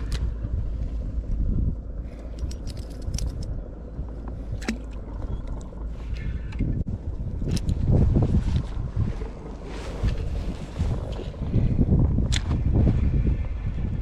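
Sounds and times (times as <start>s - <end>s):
water around kayak: 0.0s - 14.0s
wind rumble on microphone: 0.0s - 14.0s.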